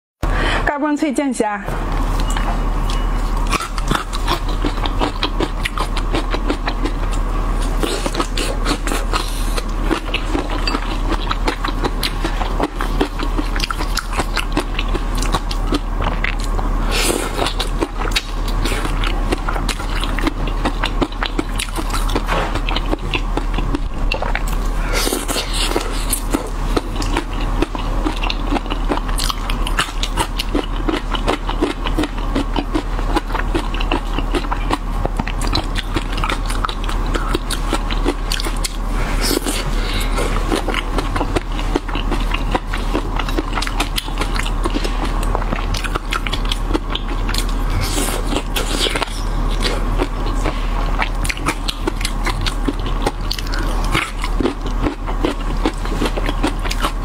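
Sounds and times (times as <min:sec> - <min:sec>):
crunchy chewing: 0:01.9 - 0:57.0.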